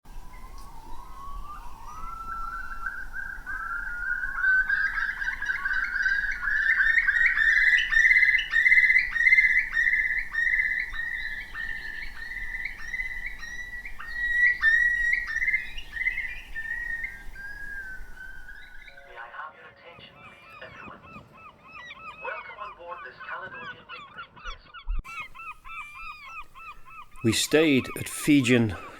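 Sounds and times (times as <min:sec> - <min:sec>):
bird singing whistled notes: 0:00.1 - 0:28.9.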